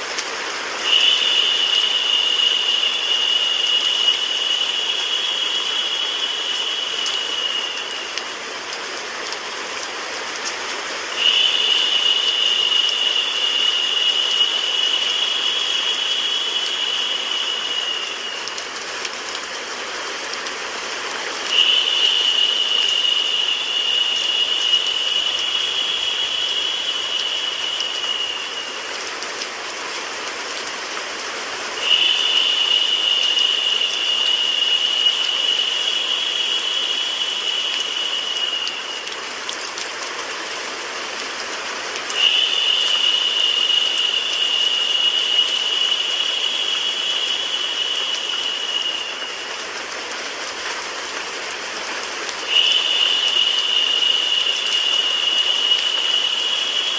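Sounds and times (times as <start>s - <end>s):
high steady whine: 0.0s - 30.0s, 31.6s - 40.0s, 41.7s - 51.2s, 52.3s - 56.9s
steady rain hiss: 0.0s - 56.9s.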